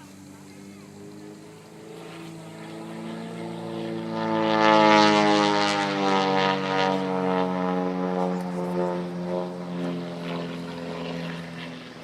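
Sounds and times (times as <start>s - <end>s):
propeller plane passing overhead: 0.0s - 12.0s.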